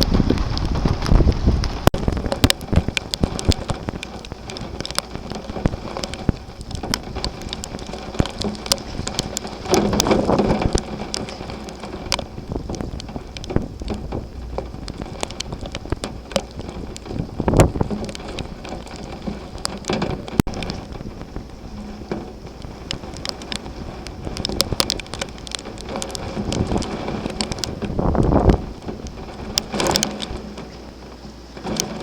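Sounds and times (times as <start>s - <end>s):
heavy rain falling: 0.0s - 32.0s
raindrops ticking close by: 0.0s - 32.0s.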